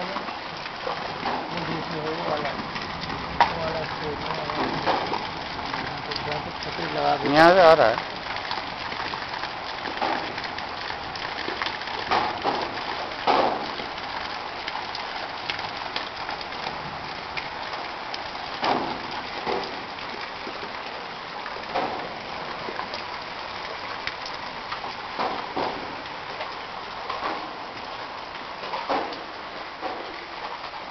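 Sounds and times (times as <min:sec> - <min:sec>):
floodwater rushing along road: 0:00.0 - 0:30.9.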